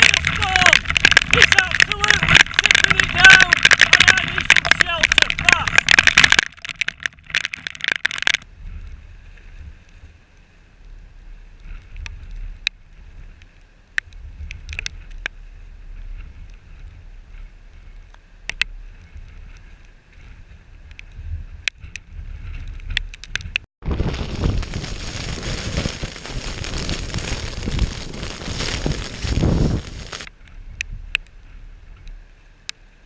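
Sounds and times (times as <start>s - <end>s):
wind buffeting microphone: 0.0s - 7.8s, 8.4s - 32.4s.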